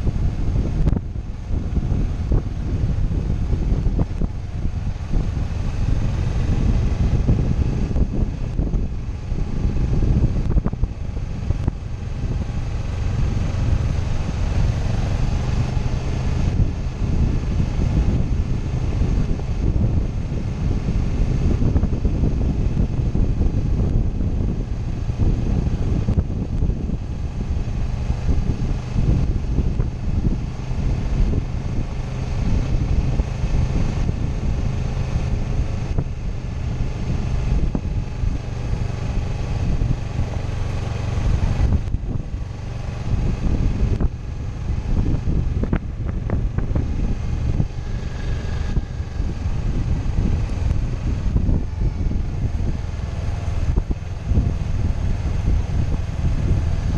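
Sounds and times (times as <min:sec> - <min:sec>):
motorcycle engine drone: 0:00.0 - 0:56.9
wind rushing over microphone: 0:00.0 - 0:56.9.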